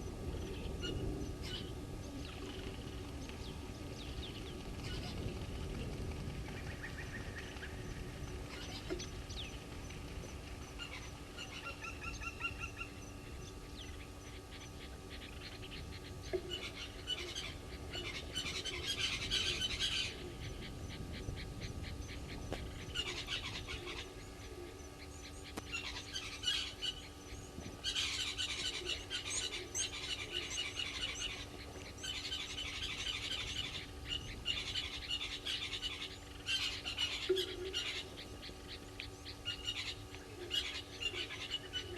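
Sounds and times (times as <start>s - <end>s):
birds chirping: 0.0s - 41.9s
low background rumble: 0.0s - 41.9s.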